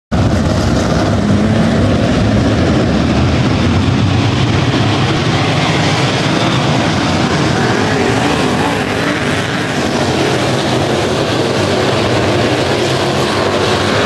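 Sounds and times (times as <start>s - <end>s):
race car engines droning: 0.1s - 14.0s.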